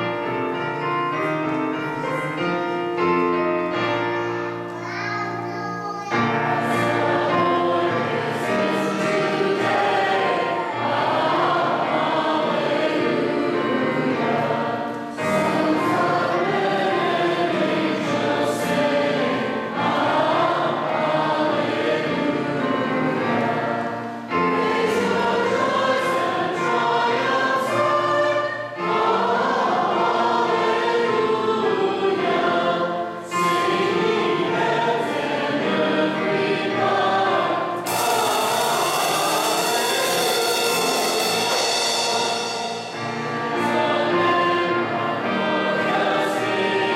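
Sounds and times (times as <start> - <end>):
choir and congregation singing hymn: 0.0 - 4.7, 6.0 - 46.9.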